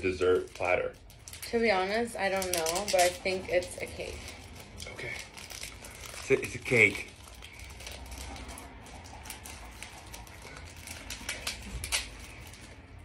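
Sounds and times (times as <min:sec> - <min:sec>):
wrapping crinkling: 0:00.0 - 0:13.0.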